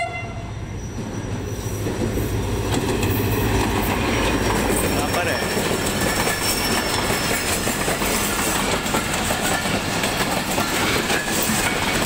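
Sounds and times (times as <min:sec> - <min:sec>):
train wheels clattering on rails: 0:00.9 - 0:12.0.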